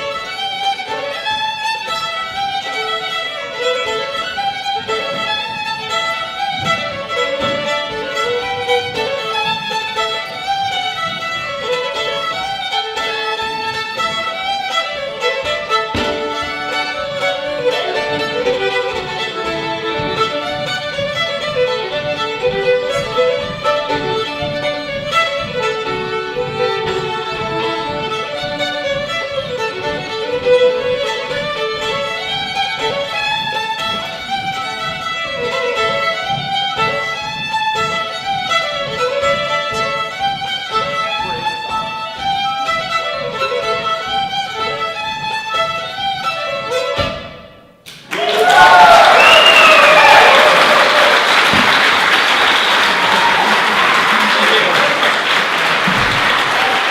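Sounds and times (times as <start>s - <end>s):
fiddles playing a fast reel: 0.0s - 47.0s.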